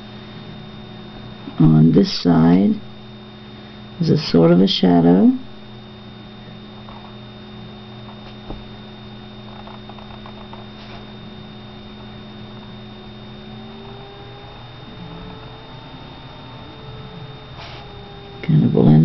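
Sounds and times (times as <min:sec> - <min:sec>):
electrical mains hum: 0:00.0 - 0:19.0
thin high whine: 0:00.0 - 0:19.0.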